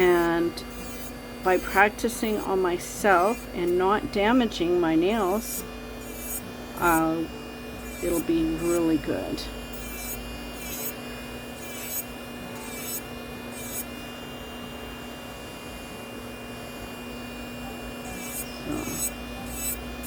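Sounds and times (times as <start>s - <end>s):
drill bit scraping fingernail: 0.0s - 14.2s, 17.7s - 20.0s
cordless nail drill humming: 0.0s - 20.0s.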